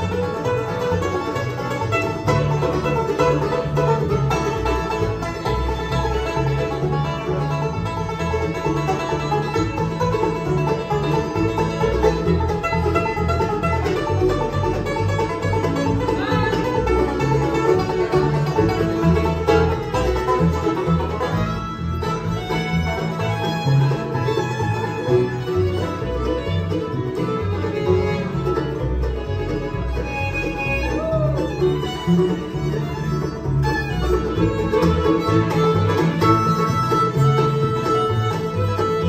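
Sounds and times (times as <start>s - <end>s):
banjo: 0.0s - 39.0s
bluegrass band playing: 0.0s - 39.0s.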